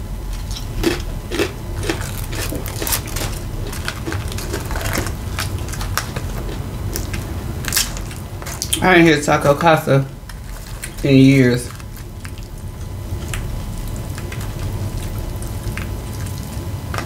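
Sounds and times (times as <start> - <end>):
person chewing crunchy chips: 0.3 - 17.0.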